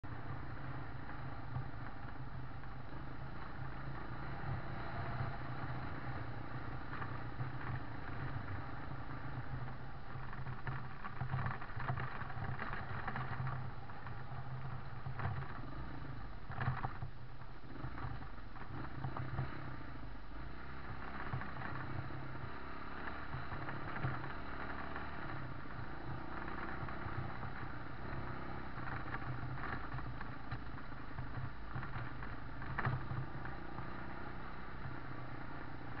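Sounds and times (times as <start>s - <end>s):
rough road noise: 0.0s - 36.0s
vehicle engine running: 0.0s - 36.0s.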